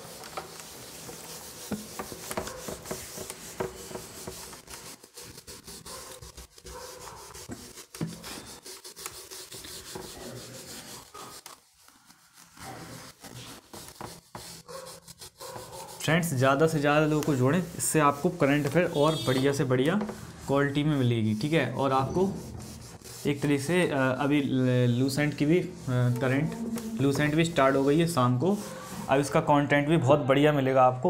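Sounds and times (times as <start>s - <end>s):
eraser scrubbing whiteboard: 0.0s - 29.6s.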